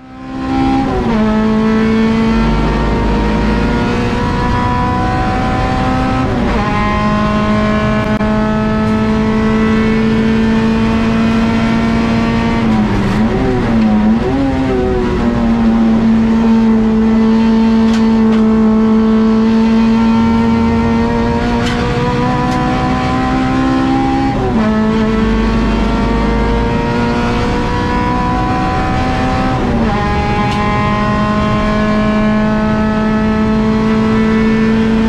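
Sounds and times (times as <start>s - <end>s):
race car engine at full throttle: 0.0s - 35.0s.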